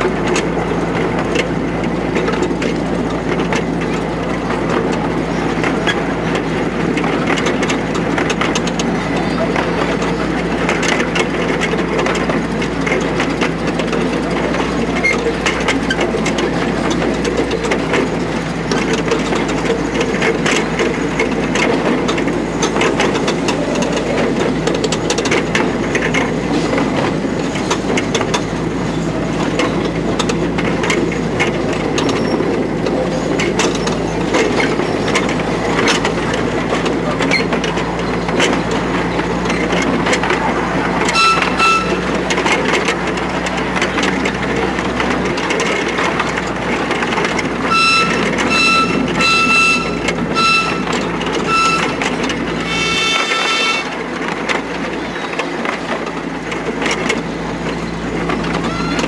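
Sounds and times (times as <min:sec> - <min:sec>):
train wheels rumbling on rails: 0:00.0 - 0:59.0
wheels clicking and clattering: 0:00.0 - 0:59.0.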